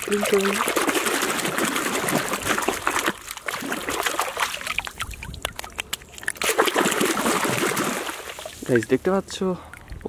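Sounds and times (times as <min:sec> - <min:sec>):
splashing in pond water: 0:00.0 - 0:10.0.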